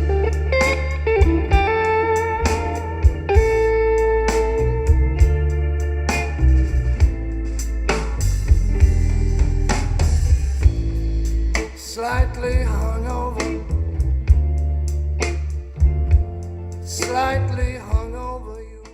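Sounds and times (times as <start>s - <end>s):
music with guitar and drum kit: 0.0s - 18.9s.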